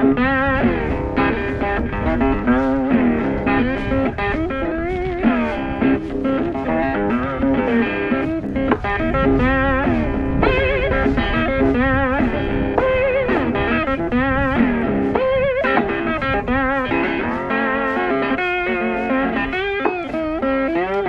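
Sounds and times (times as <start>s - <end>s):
bluesy electric guitar: 0.0s - 21.0s.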